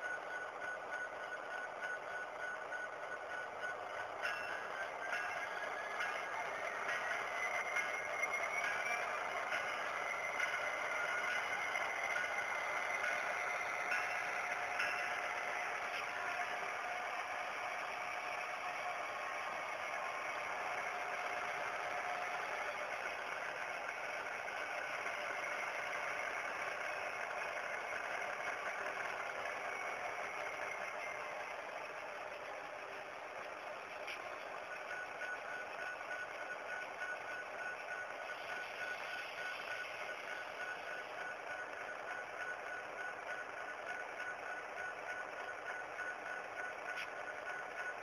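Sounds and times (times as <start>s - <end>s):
model locomotive idling engine sound: 0.0s - 48.0s
thin steady whine: 0.0s - 48.0s.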